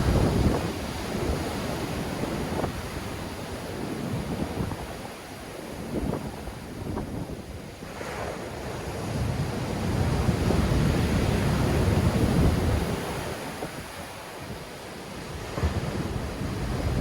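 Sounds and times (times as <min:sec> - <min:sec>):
sea waves breaking ashore: 0:00.0 - 0:17.0
wind buffeting microphone: 0:00.0 - 0:17.0.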